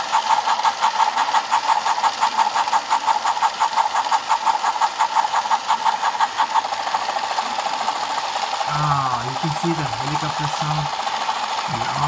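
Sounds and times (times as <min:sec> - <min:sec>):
toy helicopter rhythmic whirring: 0:00.0 - 0:12.0.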